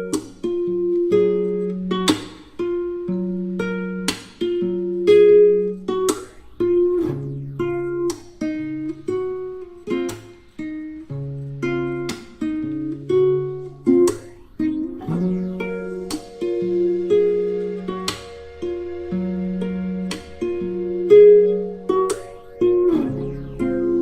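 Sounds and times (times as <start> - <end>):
plucked guitar melody: 0.0 - 24.0
strummed guitar stroke: 0.0 - 24.0.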